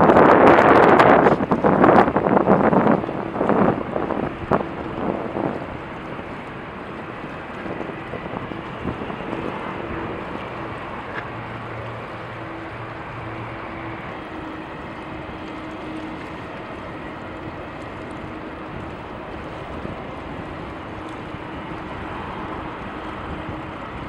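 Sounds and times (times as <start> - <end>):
faint low engine hum: 0.0 - 24.0
wind buffeting microphone: 0.0 - 24.0.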